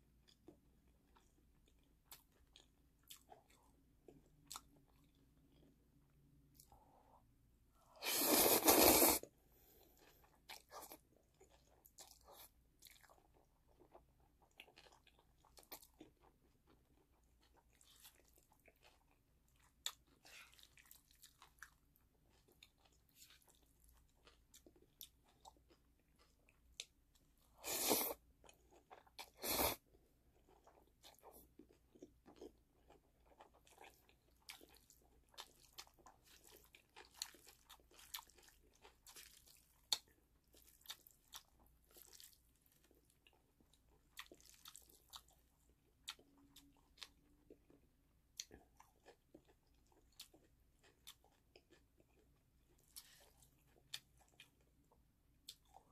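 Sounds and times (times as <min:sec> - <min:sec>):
person chewing noodles: 0:00.2 - 0:55.9.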